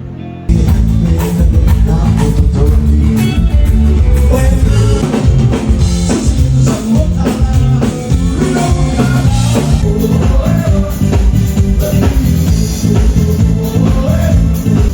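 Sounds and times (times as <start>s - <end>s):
band music: 0.0s - 14.9s
drum kit beat: 0.5s - 14.9s.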